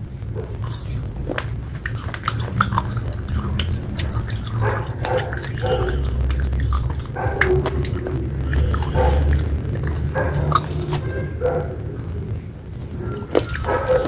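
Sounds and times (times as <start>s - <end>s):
chewing wet clay paste: 0.4s - 14.0s
wet mouth clicks: 0.6s - 11.2s, 12.0s - 14.0s.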